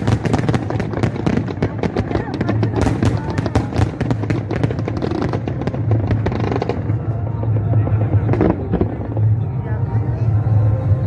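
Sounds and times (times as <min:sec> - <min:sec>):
fireworks crackling: 0:00.0 - 0:10.7
steady low rumble: 0:00.0 - 0:11.0.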